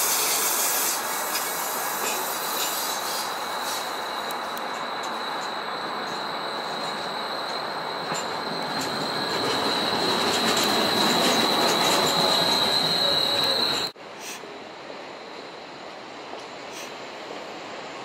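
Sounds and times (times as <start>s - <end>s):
rumble of wheels on rail: 0.0s - 18.0s
tram wheels squealing on rails: 0.0s - 18.0s.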